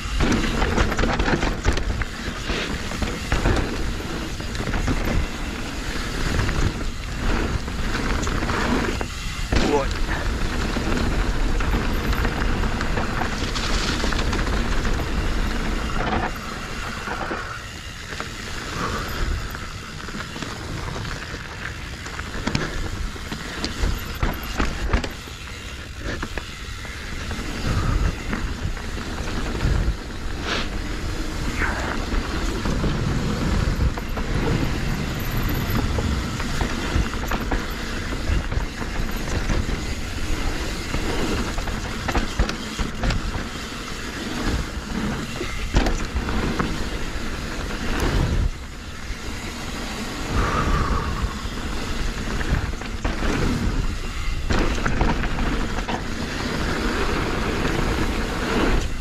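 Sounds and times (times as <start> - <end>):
bike knocks and rattles: 0.0 - 50.3, 51.0 - 59.0
bike riding noise on dirt trail: 0.0 - 59.0.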